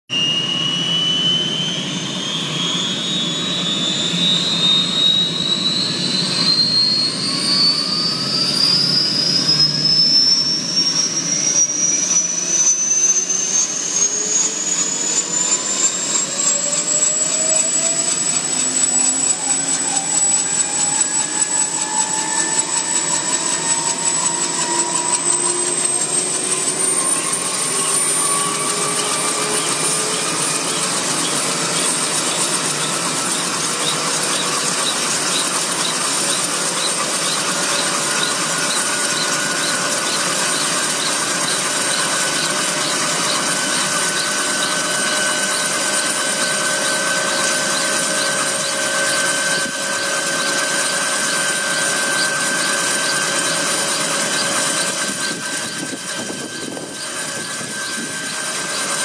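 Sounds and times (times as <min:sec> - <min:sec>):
helicopter engine high whine: 0:00.1 - 0:59.0.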